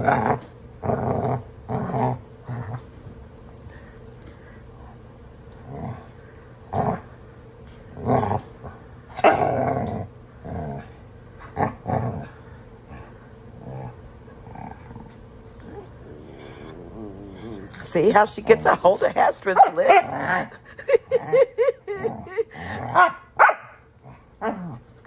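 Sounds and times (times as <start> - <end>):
dogs growling in play: 0.0 - 25.0.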